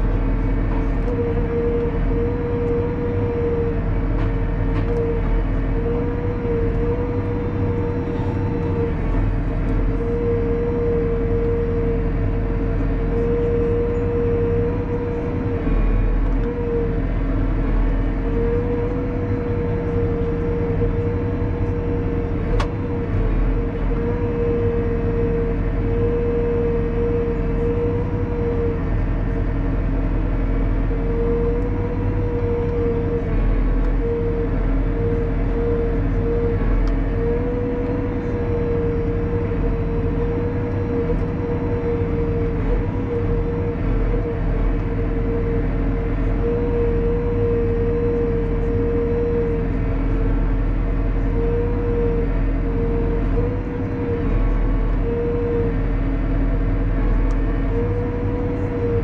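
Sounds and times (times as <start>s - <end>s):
hydraulic whine: 0.0s - 59.0s
tractor diesel engine running: 0.0s - 59.0s.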